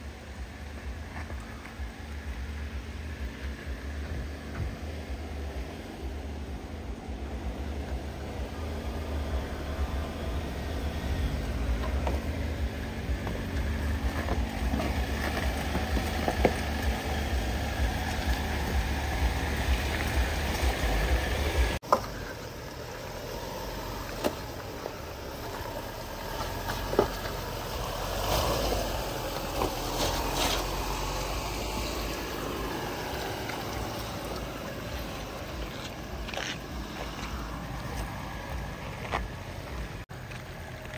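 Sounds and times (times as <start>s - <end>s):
off-road vehicle engine rumbling: 0.0s - 40.9s.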